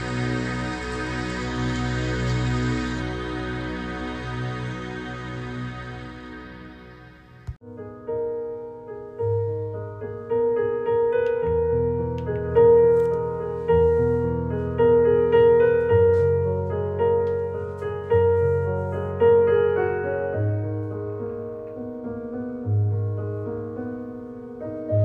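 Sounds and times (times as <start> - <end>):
piano notes: 0.0 - 25.0.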